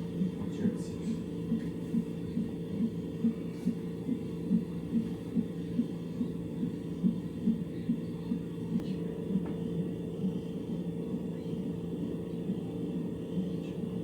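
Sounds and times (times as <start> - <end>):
baby heartbeat over loudspeaker: 0.0 - 14.0
constant hum: 0.0 - 14.0.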